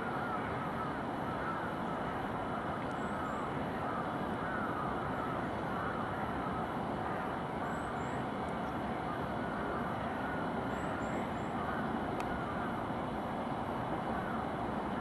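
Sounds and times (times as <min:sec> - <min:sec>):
faint bird calls: 0:00.0 - 0:12.9, 0:14.0 - 0:15.0
distant city hum: 0:00.0 - 0:15.0.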